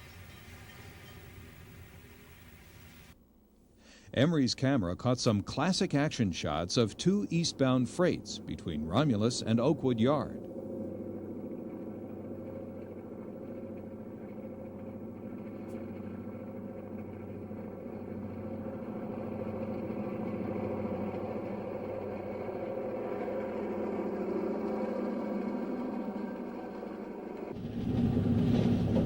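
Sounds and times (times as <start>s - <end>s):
locomotive engine droning: 0.0s - 3.2s, 4.3s - 29.0s.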